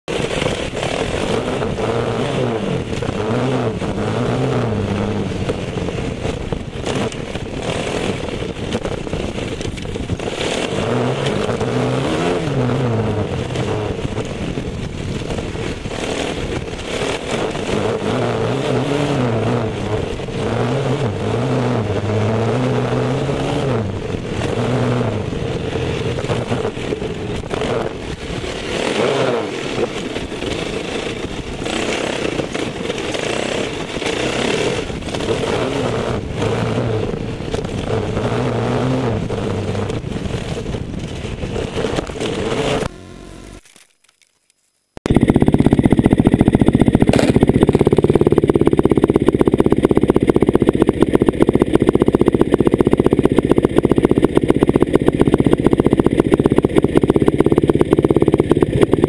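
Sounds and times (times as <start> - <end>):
dirt bike engine revving: 0.1 - 43.7, 44.7 - 59.0.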